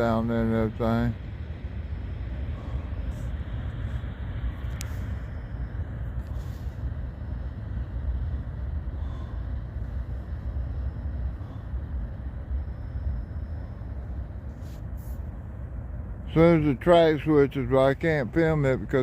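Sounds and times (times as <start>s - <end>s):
freight train rumble: 0.0s - 19.0s.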